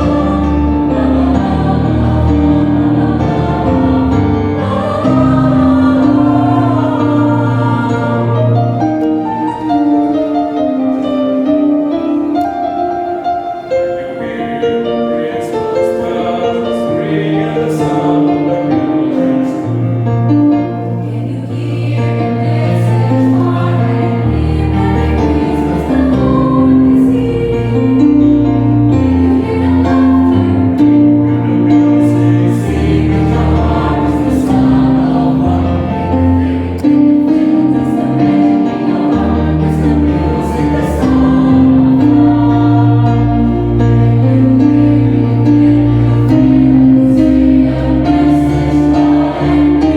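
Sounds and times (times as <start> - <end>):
mixed choir singing: 0.0 - 49.9.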